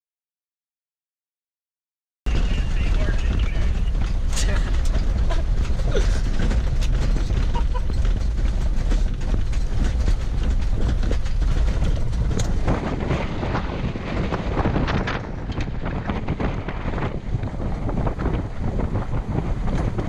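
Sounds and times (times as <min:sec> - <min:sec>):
rattling and clicks: 0:02.3 - 0:20.0
tyres and suspension rumbling: 0:02.3 - 0:20.0
wind buffeting microphone: 0:02.3 - 0:20.0.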